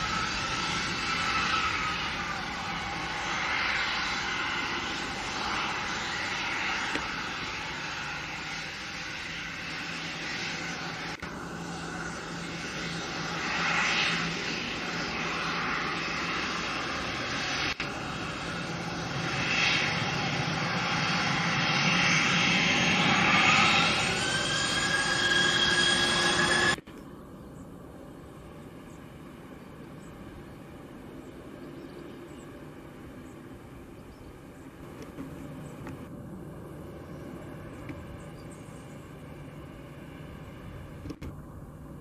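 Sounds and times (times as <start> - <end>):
jet engines taxiing: 0.0 - 42.0.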